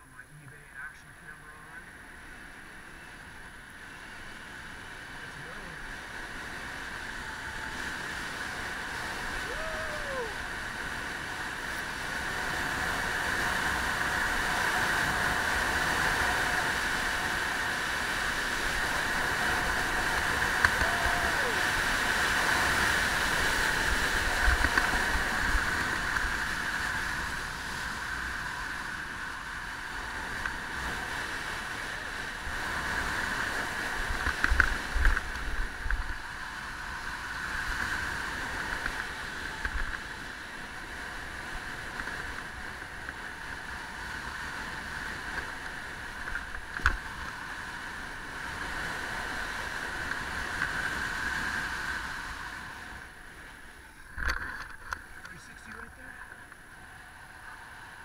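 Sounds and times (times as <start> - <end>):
wind rushing over microphone: 2.1 - 58.0.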